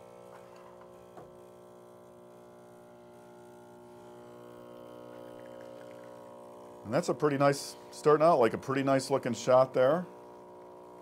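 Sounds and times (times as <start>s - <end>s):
espresso machine pump humming: 0.0s - 11.0s.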